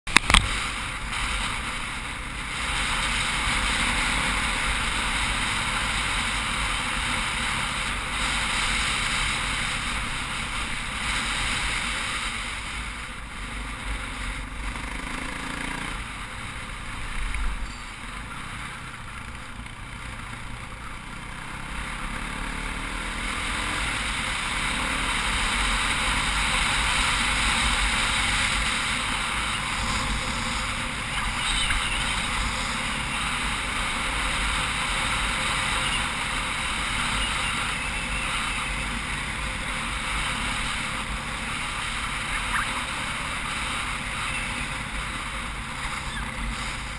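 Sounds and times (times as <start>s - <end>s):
dirt bike engine running: 0.1s - 46.9s.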